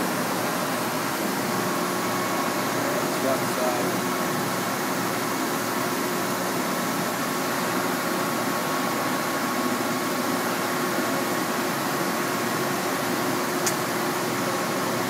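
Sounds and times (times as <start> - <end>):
shop machinery hum and hiss: 0.0 - 15.0.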